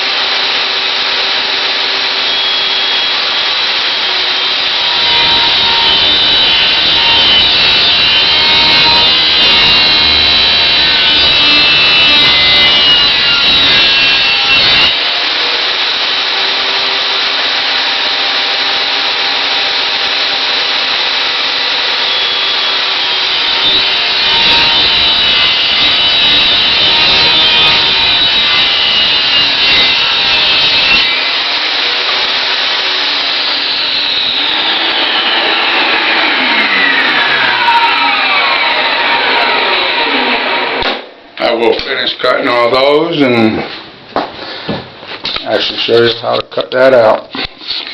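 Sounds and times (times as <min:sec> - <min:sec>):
saw blade spinning down: 0:00.0 - 0:18.8, 0:19.5 - 0:41.1
table saw cutting wood: 0:00.0 - 0:41.8.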